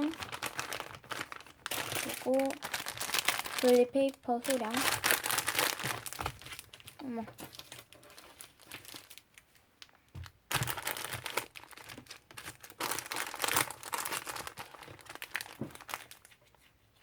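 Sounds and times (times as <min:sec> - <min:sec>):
paper and plastic crinkling: 0:00.0 - 0:17.0.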